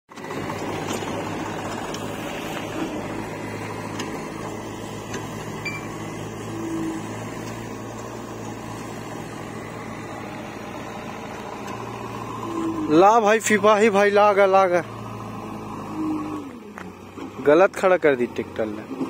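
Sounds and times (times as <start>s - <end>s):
tractor diesel engine humming: 0.1s - 19.0s.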